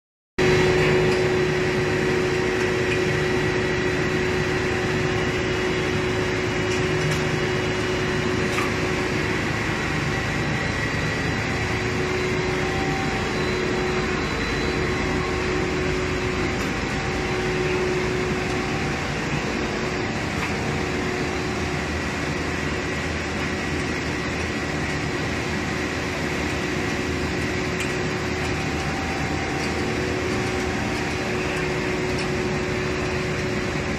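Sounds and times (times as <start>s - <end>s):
constant machine whine: 0.4s - 33.9s
extrusion machine drone: 0.4s - 33.9s.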